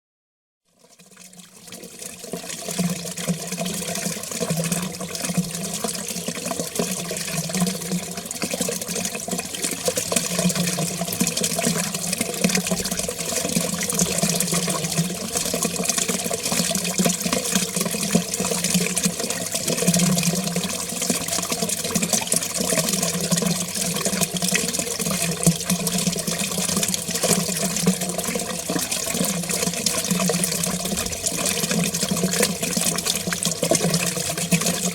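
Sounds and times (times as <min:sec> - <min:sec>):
water gurgling down a drain: 0:00.8 - 0:34.9.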